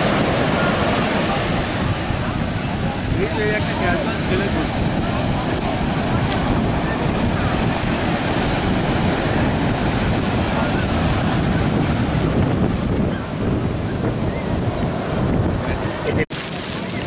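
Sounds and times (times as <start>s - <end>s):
ocean surf washing onto beach: 0.0s - 17.0s
wind buffeting microphone: 0.0s - 17.0s.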